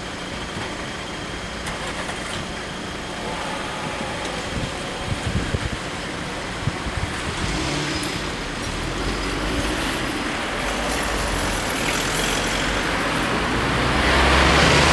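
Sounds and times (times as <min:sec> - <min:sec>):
car engine and tyre noise: 0:00.0 - 0:14.9.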